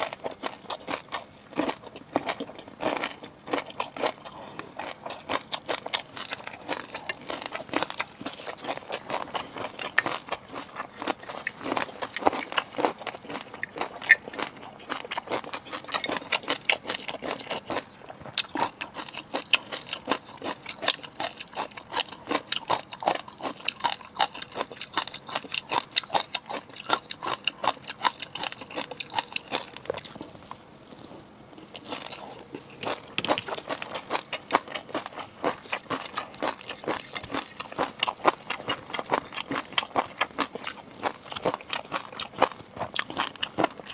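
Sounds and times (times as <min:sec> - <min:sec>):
chewing seafood with crunching: 0:00.0 - 0:43.9.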